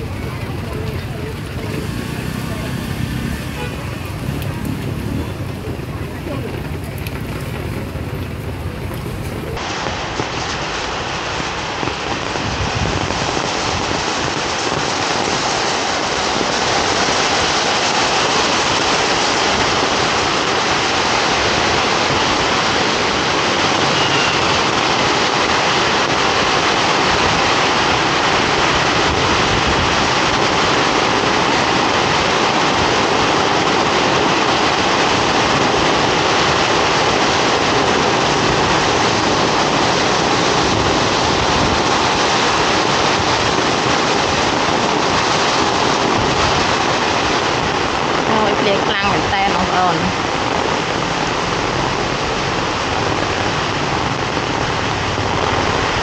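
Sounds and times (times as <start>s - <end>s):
heavy rain on wet street: 0.0s - 56.0s.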